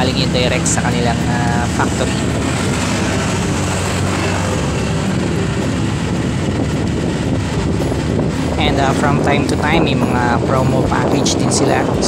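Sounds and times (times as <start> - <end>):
motorcycle engine running: 0.0 - 12.0
road noise: 0.0 - 12.0
wind rushing: 0.0 - 12.0.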